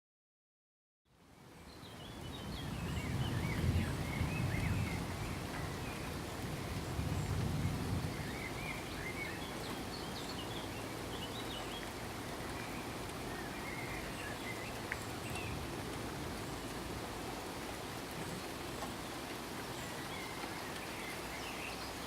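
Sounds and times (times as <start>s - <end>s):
steady rain falling: 1.1s - 22.0s
birds chirping: 1.4s - 22.0s.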